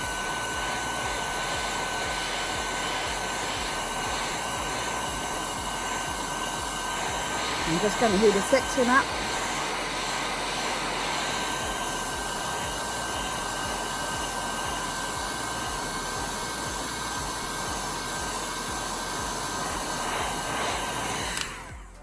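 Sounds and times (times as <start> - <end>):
heat gun blowing: 0.0 - 22.0.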